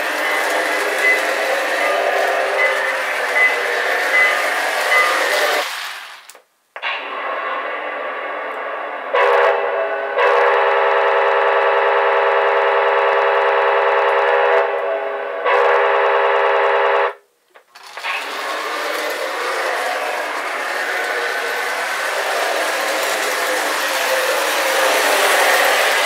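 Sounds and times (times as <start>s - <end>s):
model locomotive whistle blowing: 0.0s - 5.7s, 9.1s - 17.2s, 18.4s - 26.0s
model train running: 0.0s - 6.4s, 7.0s - 26.0s.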